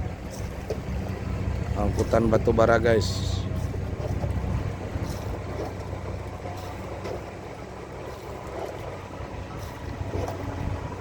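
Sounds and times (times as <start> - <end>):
barge engine droning: 0.0 - 11.0.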